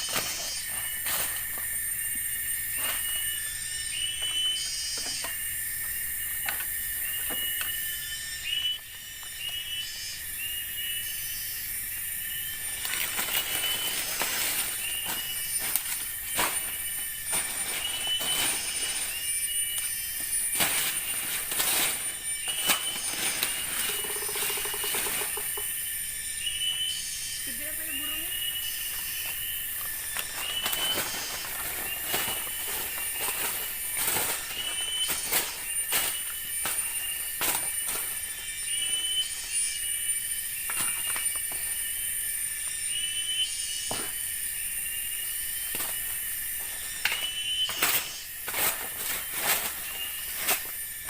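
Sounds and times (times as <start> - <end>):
insects buzzing chorus: 0.0 - 51.0
repeating insect chirp: 0.0 - 51.0.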